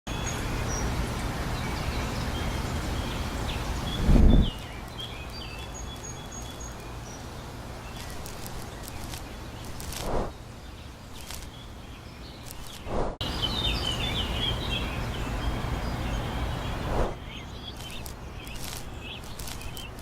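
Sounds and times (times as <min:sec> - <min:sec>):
small birds chirping: 0:00.1 - 0:20.0
steady hiss: 0:02.2 - 0:11.6, 0:12.4 - 0:20.0.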